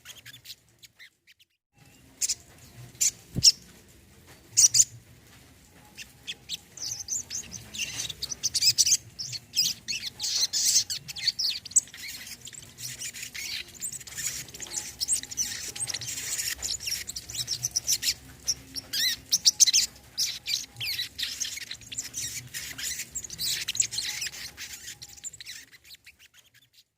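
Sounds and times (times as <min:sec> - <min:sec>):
bird singing high chirps: 0:00.0 - 0:03.7, 0:05.8 - 0:26.9.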